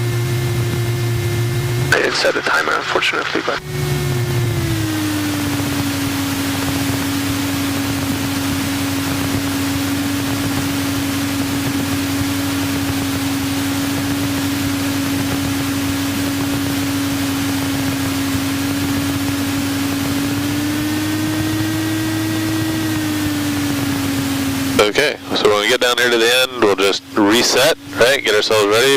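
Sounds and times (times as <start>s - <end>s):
propeller plane engine droning: 0.0s - 28.9s.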